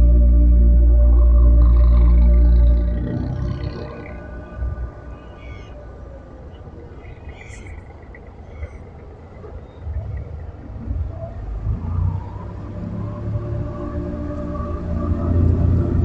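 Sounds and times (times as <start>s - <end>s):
boat engine rumble: 0.0s - 16.0s.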